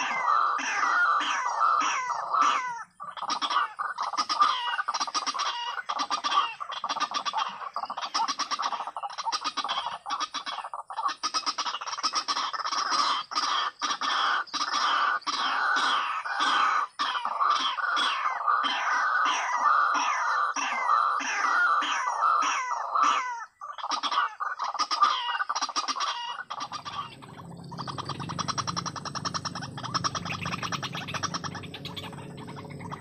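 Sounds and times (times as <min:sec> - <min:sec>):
bird harsh croaking calls: 0:00.0 - 0:33.0.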